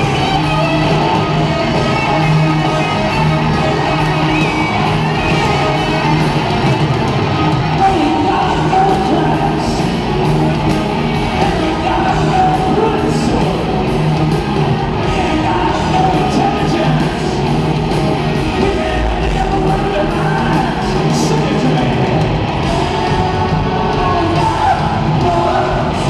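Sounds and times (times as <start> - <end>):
drums: 0.0 - 26.0
electric guitar: 0.0 - 26.0
live hard rock band: 0.0 - 26.0.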